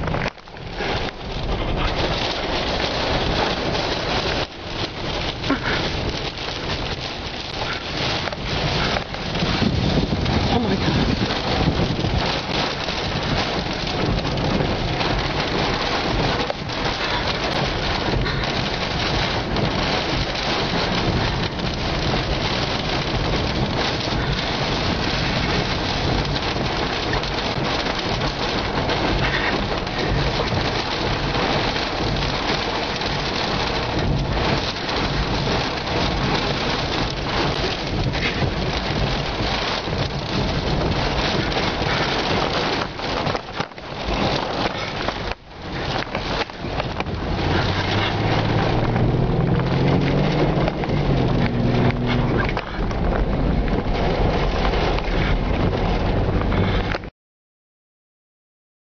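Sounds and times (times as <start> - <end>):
heavy rain on car roof: 0.0 - 57.1.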